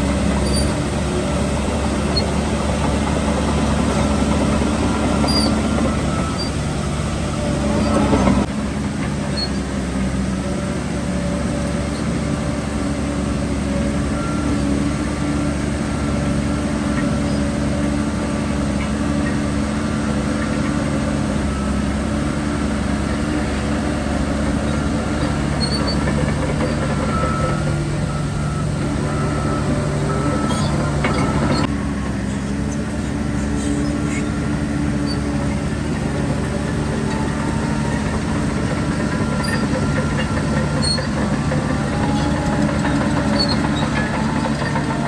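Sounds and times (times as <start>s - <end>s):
heavy diesel machinery running: 0.0s - 45.0s
lower engine tone: 0.0s - 45.0s.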